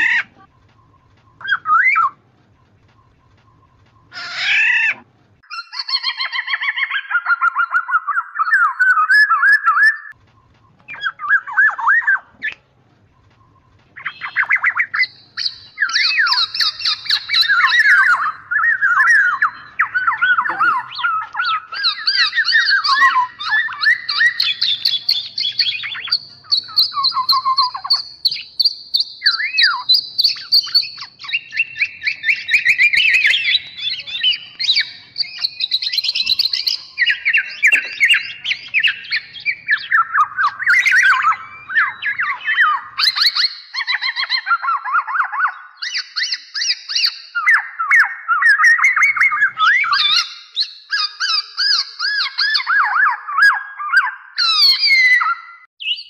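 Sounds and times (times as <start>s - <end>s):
bird chirps and trills: 0.0s - 56.0s.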